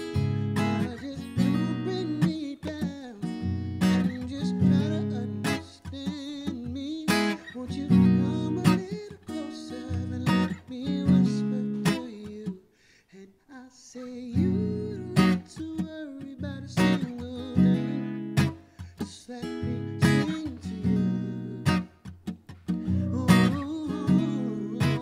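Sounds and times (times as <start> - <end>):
acoustic guitar strumming: 0.0 - 12.6, 14.3 - 25.0
man singing: 0.0 - 22.0, 22.7 - 25.0.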